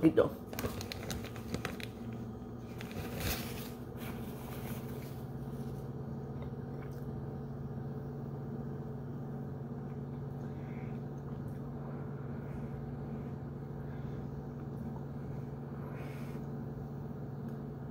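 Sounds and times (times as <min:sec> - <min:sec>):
low motor hum: 0:00.0 - 0:17.9.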